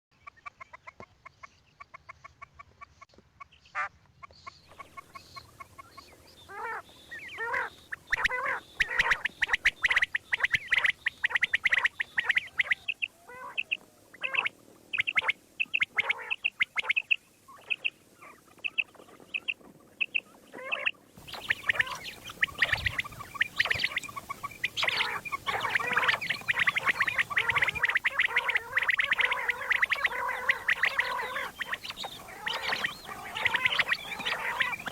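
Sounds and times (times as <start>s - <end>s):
quail calling: 4.7s - 34.9s.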